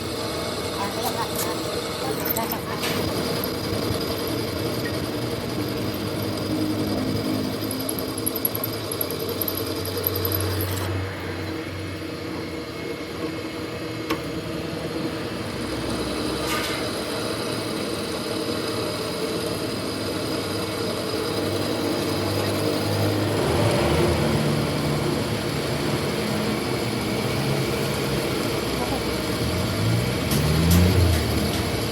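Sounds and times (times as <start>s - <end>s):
machine running: 0.0s - 31.9s.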